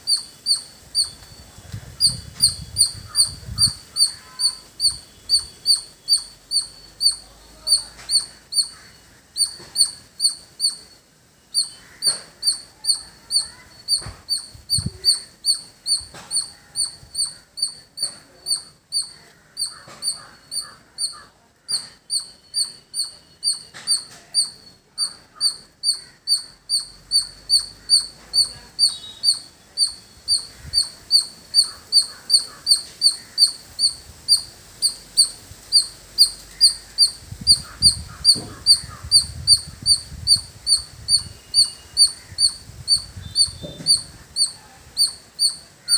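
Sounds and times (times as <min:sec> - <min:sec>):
squirrel alarm chirps: 0:00.0 - 0:45.9.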